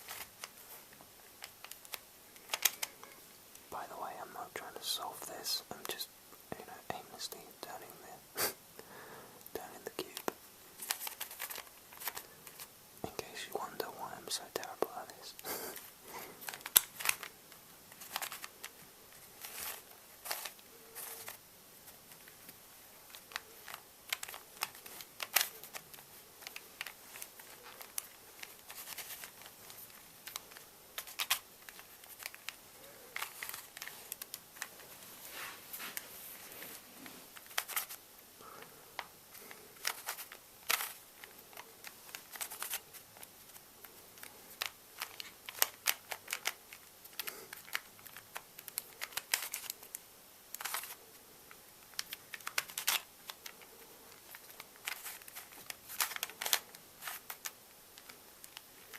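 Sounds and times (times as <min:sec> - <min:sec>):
puzzle cube plastic clicks: 0:01.2 - 0:03.2, 0:09.4 - 0:21.4, 0:22.0 - 0:34.9, 0:37.3 - 0:38.0, 0:39.0 - 0:58.9.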